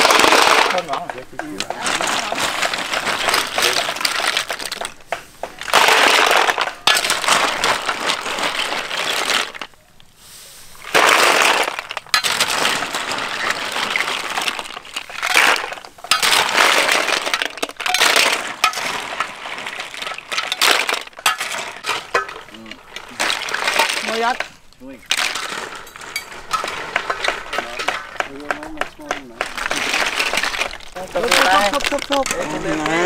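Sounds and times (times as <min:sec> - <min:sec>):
snail shells clattering in metal wok: 0:00.0 - 0:09.8, 0:10.8 - 0:33.0
snails clattering into metal basin: 0:00.0 - 0:09.8, 0:10.8 - 0:33.0.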